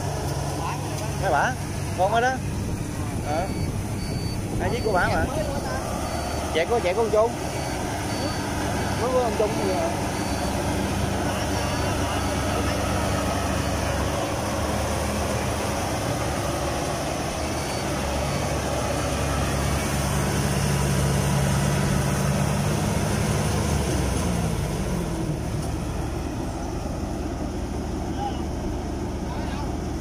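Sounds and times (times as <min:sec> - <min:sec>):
combine harvester diesel engine: 0:00.0 - 0:30.0.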